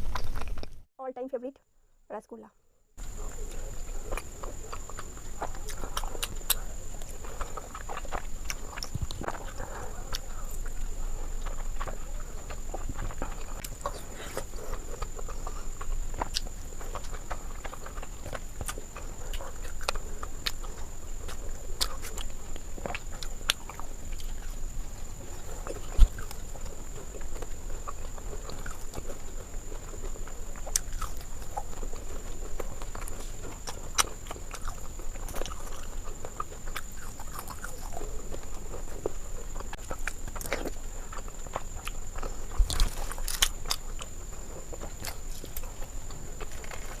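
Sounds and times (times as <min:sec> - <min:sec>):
close chewing and mouth sounds: 0:03.0 - 0:47.0.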